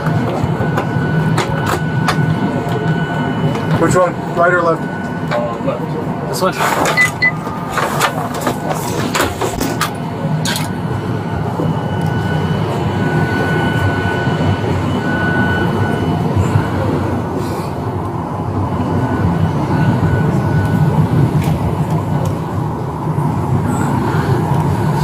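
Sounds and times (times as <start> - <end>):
cabin air system rumble: 0.0 - 25.0.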